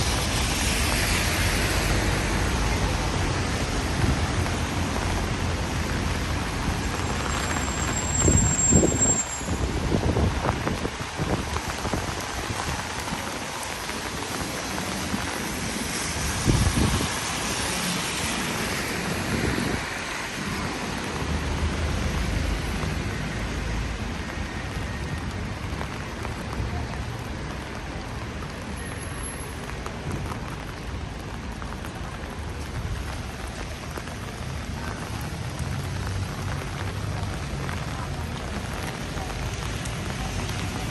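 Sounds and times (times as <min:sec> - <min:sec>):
rain on a street: 0:00.0 - 0:40.9
traffic rumble: 0:00.0 - 0:40.9.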